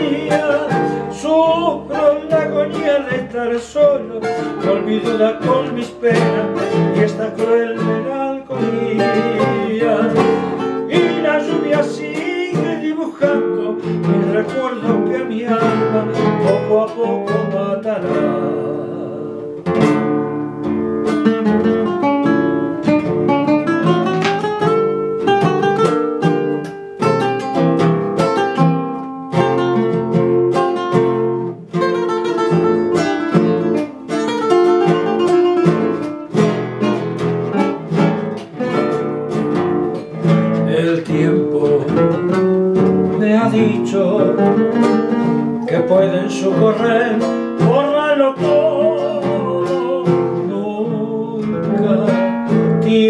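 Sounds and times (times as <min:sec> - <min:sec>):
guitar fingerpicking melody: 0:00.0 - 0:53.0
guitar strumming rhythm: 0:00.0 - 0:53.0.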